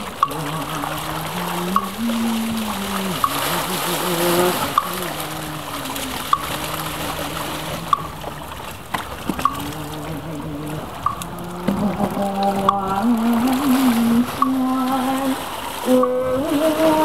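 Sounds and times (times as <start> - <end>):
rhythmic knocks: 0.0 - 17.0
voices chanting: 0.0 - 17.0
water splashing from bucket: 0.0 - 17.0.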